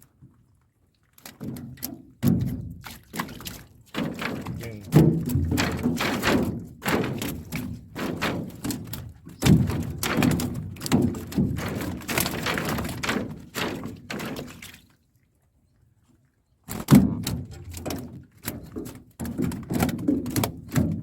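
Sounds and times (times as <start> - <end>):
thuds and knocks in a boat: 1.2 - 14.9, 16.7 - 21.0.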